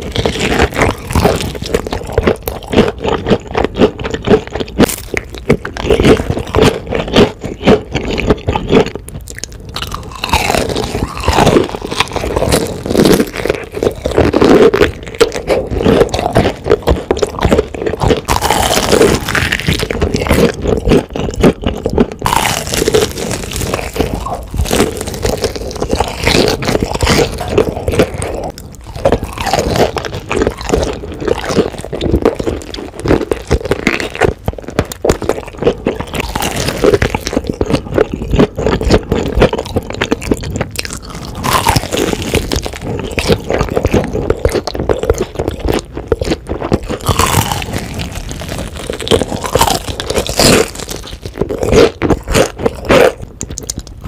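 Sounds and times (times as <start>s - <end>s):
fried chicken breading crunching: 0.0s - 54.0s
wet chewing: 0.0s - 54.0s.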